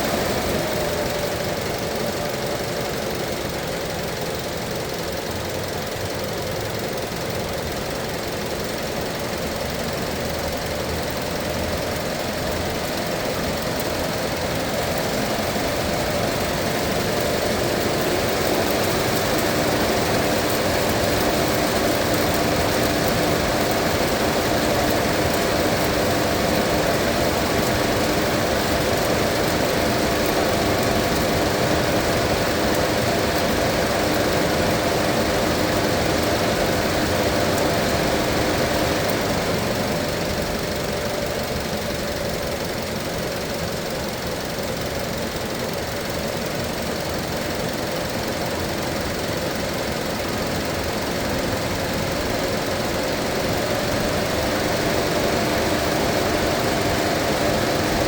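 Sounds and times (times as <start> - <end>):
car engine idling: 0.0 - 58.0
steady mechanical whine: 0.0 - 58.0.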